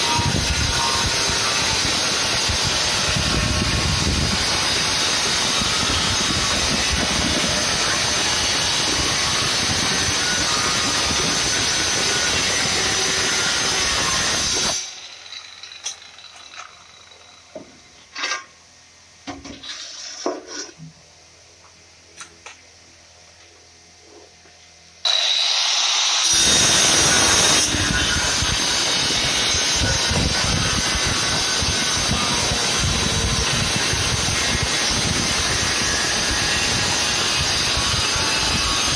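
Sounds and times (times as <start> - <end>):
cutter grinding through tile: 0.0 - 17.5, 25.0 - 38.9
electric tile cutter whining: 0.0 - 18.3, 25.0 - 38.9.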